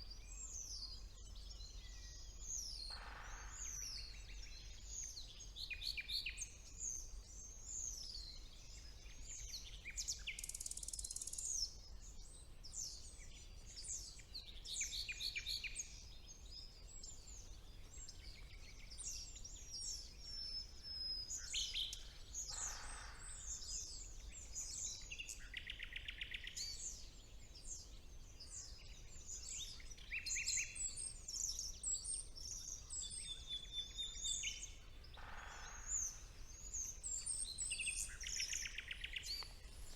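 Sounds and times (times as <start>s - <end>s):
songbird chorus: 0.0s - 39.9s.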